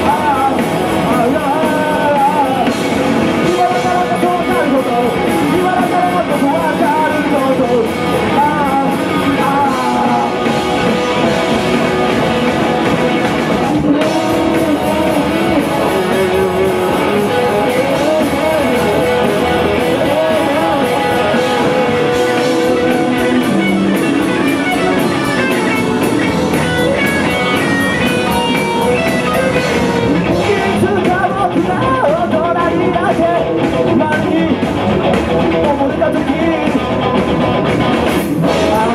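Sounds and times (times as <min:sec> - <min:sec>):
electric guitar: 0:00.0 - 0:38.9
rock band playing: 0:00.0 - 0:38.9.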